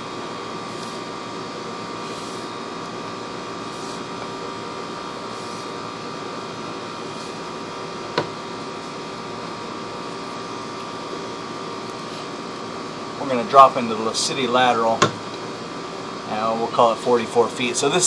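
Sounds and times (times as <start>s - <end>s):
electrical hum and hiss: 0.0s - 18.0s.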